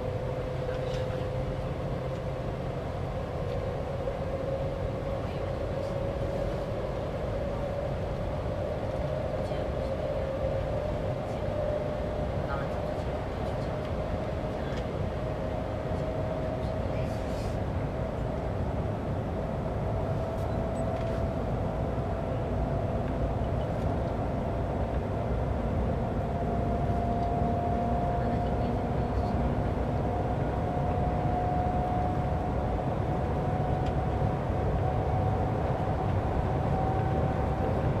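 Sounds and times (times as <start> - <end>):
train rumble and rushing: 0.0 - 38.0.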